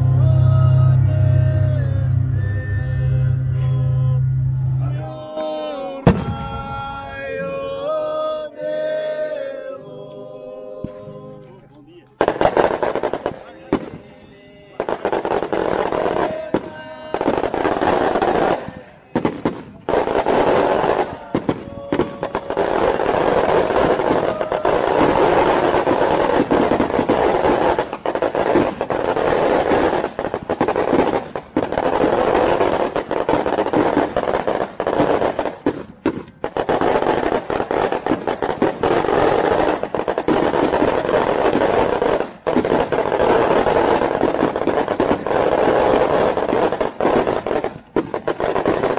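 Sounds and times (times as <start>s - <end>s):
firecrackers crackling: 4.9s - 7.6s, 10.8s - 48.9s.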